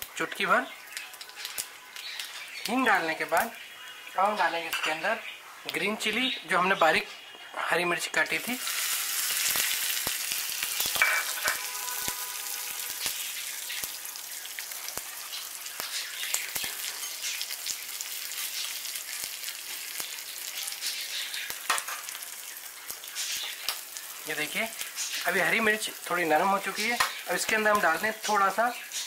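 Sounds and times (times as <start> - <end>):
chillies sizzling in hot oil: 0.0 - 29.0.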